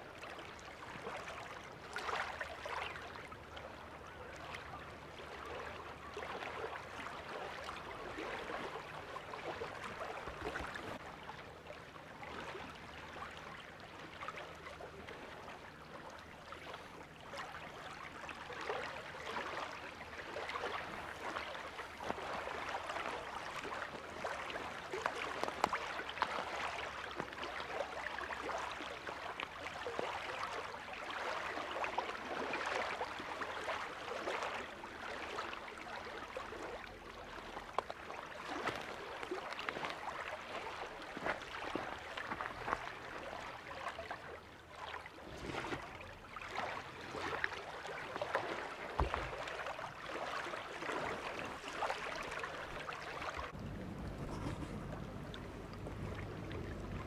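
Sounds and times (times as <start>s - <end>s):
water rippling and lapping: 0.0s - 57.0s.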